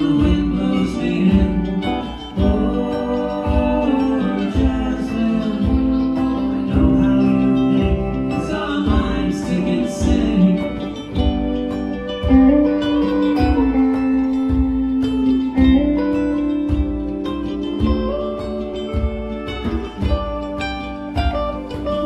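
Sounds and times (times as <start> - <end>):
electric guitars: 0.0 - 22.0
hand drums: 0.0 - 22.0
keyboard: 0.0 - 22.0
low beat: 0.0 - 22.0.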